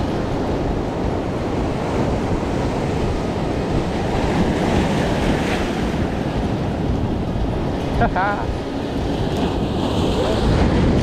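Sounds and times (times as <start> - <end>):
ocean surf breaking on rocks: 0.0 - 11.0
wind buffeting microphone: 0.0 - 11.0.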